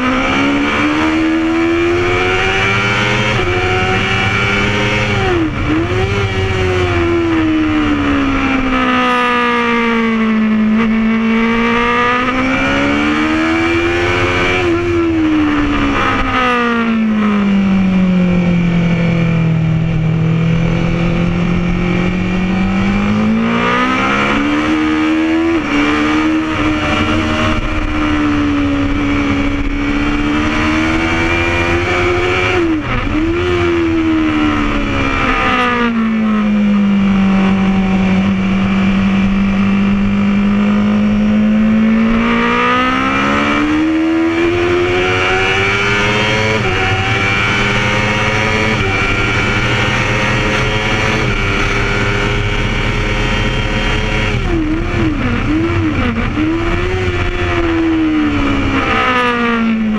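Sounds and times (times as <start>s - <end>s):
motorcycle engine under load: 0.0s - 59.9s.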